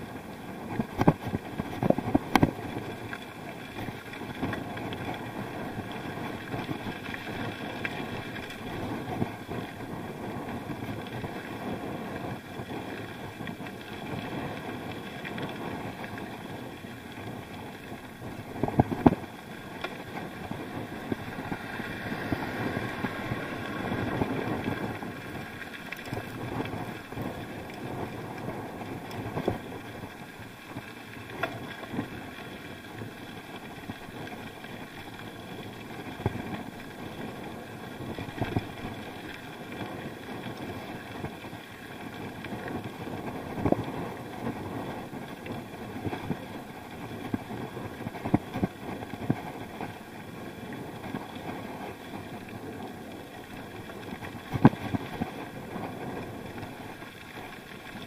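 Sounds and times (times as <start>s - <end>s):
bike knocking and rattling: 0.0s - 58.0s
wind and road noise: 0.0s - 58.0s.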